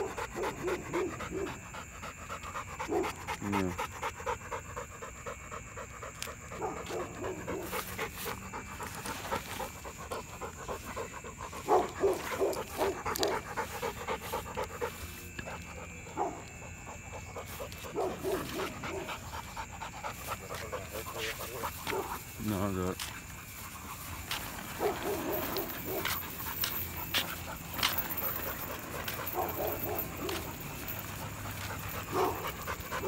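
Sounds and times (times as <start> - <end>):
dog panting: 0.0 - 33.0.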